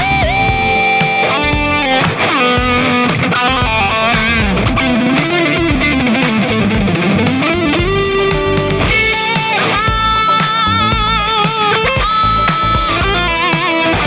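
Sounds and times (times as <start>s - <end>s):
electric guitar lead line: 0.0s - 14.0s.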